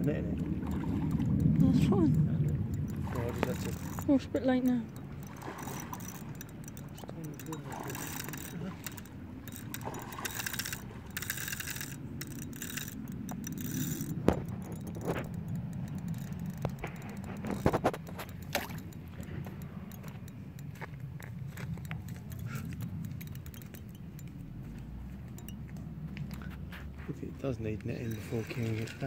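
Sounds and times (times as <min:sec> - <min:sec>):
fishing reel clicking and scraping: 0:00.0 - 0:24.5, 0:25.2 - 0:26.7, 0:27.4 - 0:29.0.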